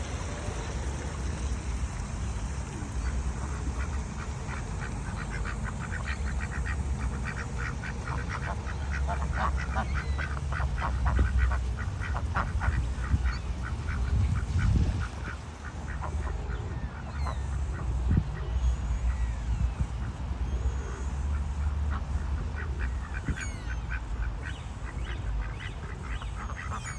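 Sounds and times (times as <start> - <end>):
ducks quacking: 0.0 - 19.2, 19.9 - 26.9.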